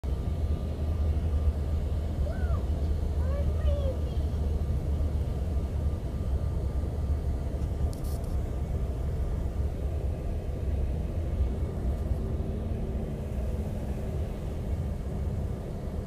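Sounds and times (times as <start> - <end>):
jet engine and airflow rumble: 0.0 - 16.0
steady low hum: 0.0 - 16.0.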